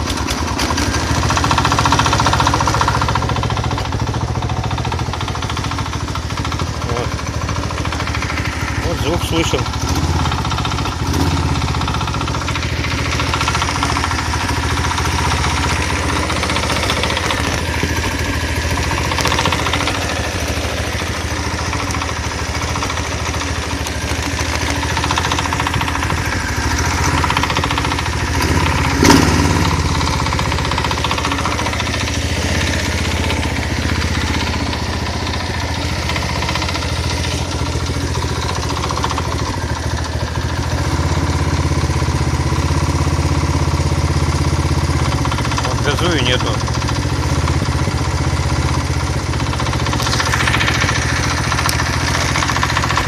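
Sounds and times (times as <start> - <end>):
small engine idling with knock: 0.0 - 53.0.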